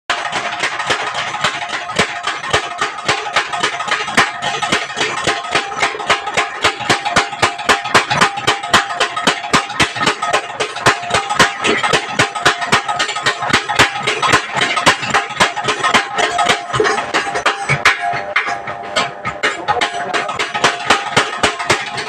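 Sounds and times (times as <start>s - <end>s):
hammer striking metal on anvil: 0.1s - 22.0s
metal ringing: 0.1s - 22.0s.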